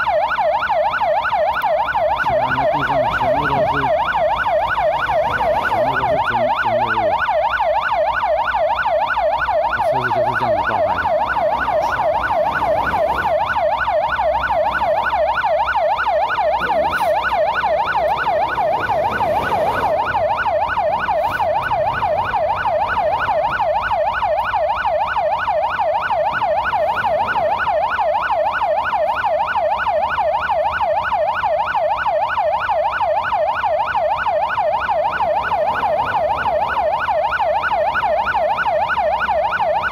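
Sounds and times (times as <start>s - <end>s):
emergency siren yelping: 0.0s - 39.9s
freeway traffic rumble: 0.0s - 39.9s.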